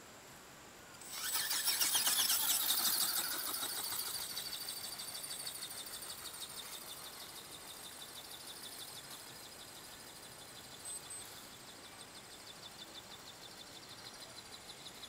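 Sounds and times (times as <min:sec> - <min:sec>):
model aircraft motor and propeller whining: 0:01.0 - 0:15.0.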